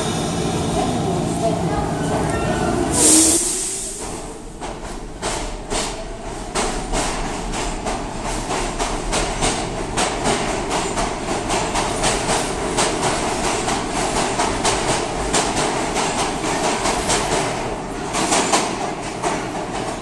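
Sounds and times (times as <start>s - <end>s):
subway train running noise: 0.0s - 20.0s
train wheels clacking over rail joints: 3.6s - 20.0s.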